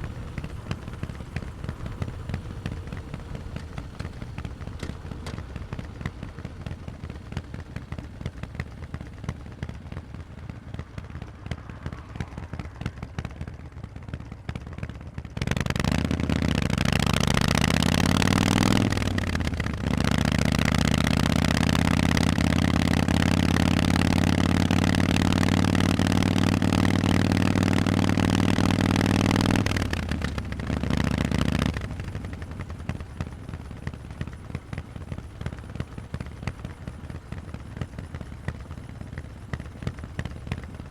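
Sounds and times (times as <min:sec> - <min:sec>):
motorcycle engine burbling and accelerating: 0:00.0 - 0:40.9.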